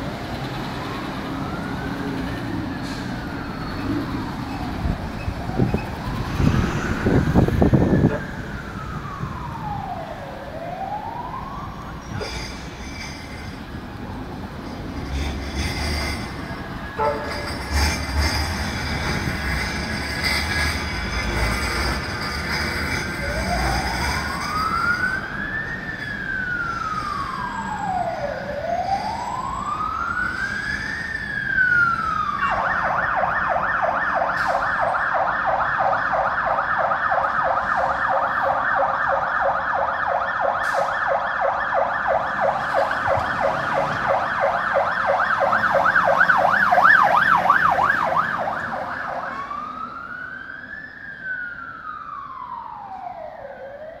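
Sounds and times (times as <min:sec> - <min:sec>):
fire engine siren: 0:00.0 - 0:54.0.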